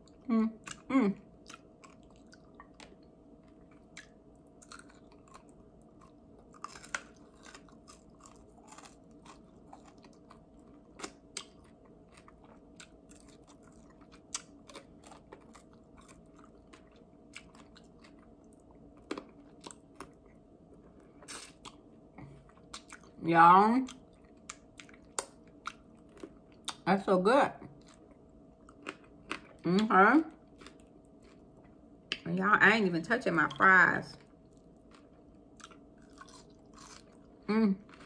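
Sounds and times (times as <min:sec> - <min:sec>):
person chewing and biting: 0:00.1 - 0:23.1, 0:23.9 - 0:26.8, 0:27.8 - 0:29.6, 0:34.2 - 0:38.0.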